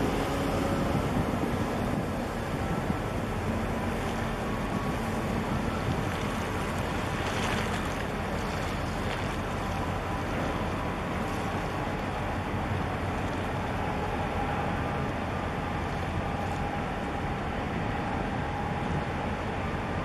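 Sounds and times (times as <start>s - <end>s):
water splashing against hull: 0.0s - 19.2s
low engine rumble: 0.0s - 20.0s
wind on microphone: 0.0s - 20.0s.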